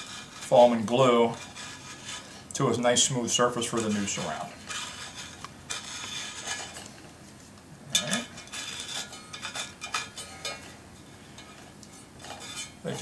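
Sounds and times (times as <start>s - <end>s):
blade scraping metal frame: 0.0s - 7.0s, 7.9s - 13.0s.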